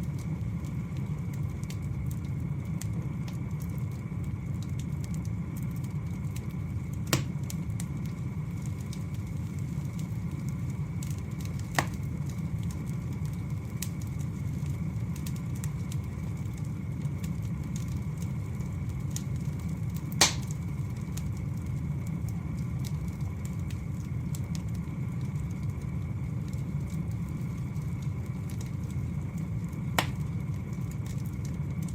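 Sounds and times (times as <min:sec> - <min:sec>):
burning wood popping: 0:00.0 - 0:31.9
fire burning with low rumble: 0:00.0 - 0:31.9.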